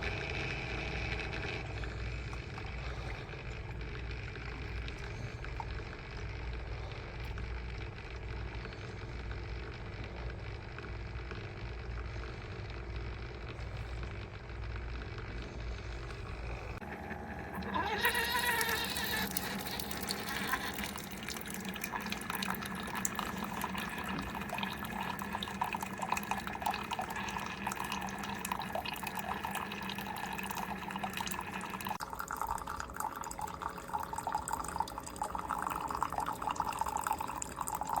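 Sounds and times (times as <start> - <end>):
coffee pouring and dripping: 0.0 - 38.0
low pump hum: 0.0 - 38.0.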